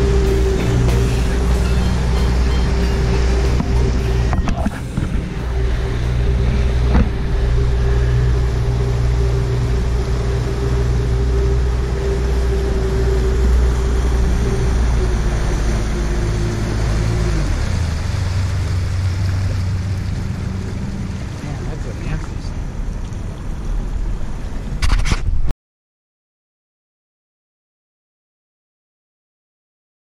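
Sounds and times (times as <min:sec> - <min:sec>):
outboard motor running: 0:00.0 - 0:24.5
wind and water rushing: 0:00.0 - 0:25.5.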